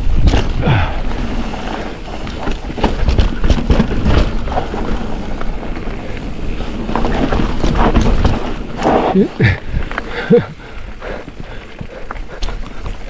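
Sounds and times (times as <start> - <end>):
bike rattling over bumps: 0.0 - 13.0
tyres rumbling on dirt: 0.0 - 13.0.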